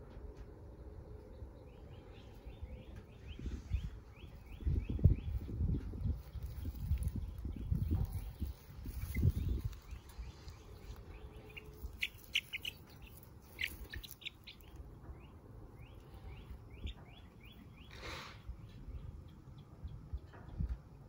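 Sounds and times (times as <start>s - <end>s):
chicks peeping: 1.8s - 20.8s.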